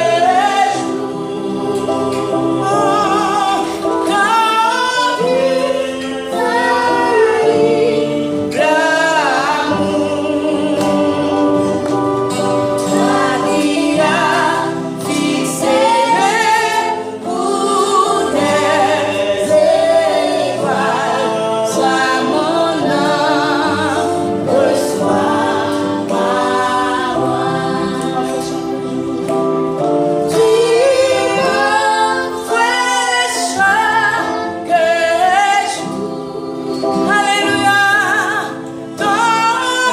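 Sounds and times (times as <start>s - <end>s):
woman and children singing gospel: 0.0s - 11.4s, 12.9s - 28.6s, 30.3s - 39.9s.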